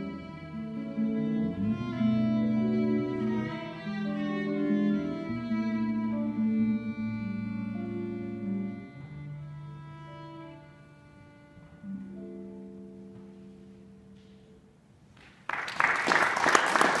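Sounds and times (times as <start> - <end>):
slow bowed string music: 0.0 - 14.6.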